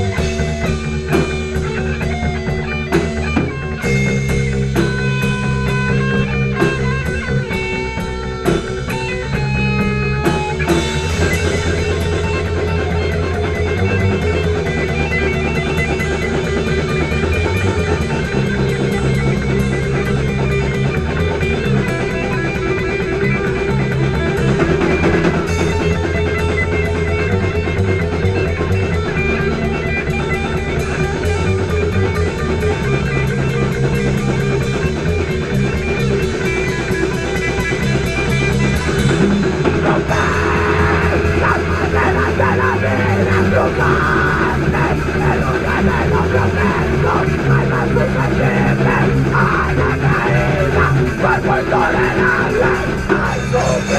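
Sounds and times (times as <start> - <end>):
drum kit playing a steady beat: 0.0 - 53.9
guitars: 0.0 - 53.9.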